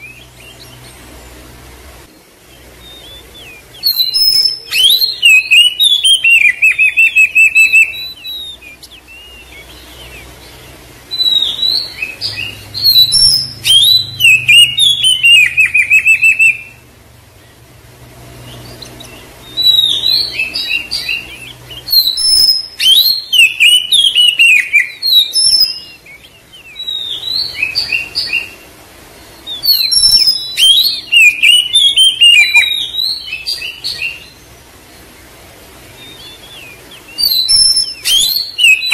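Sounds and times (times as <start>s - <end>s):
bird singing rapid whistles: 0.0s - 1.1s, 2.4s - 16.8s, 18.4s - 28.6s, 29.2s - 34.5s, 35.8s - 38.9s.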